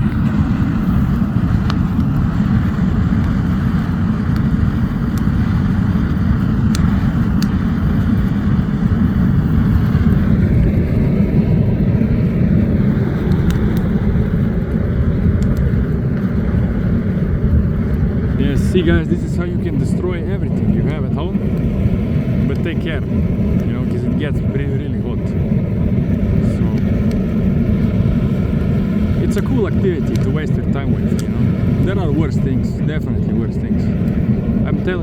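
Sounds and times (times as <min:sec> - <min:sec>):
fire crackling: 0:00.0 - 0:35.0
furnace fan rumble: 0:00.0 - 0:35.0.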